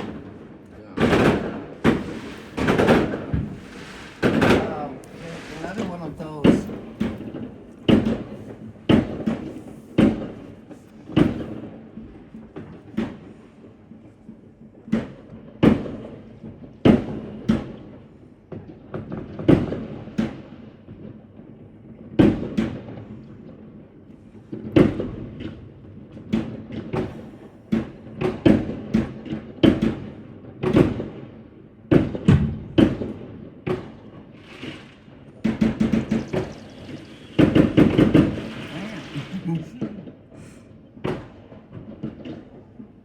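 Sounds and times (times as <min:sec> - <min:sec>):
fireworks and firecrackers banging: 0:00.0 - 0:43.0.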